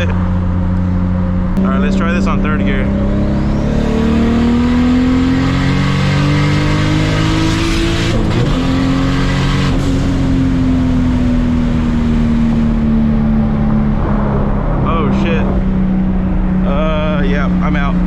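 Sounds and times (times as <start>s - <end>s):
turbocharged car engine revving: 0.0s - 18.0s.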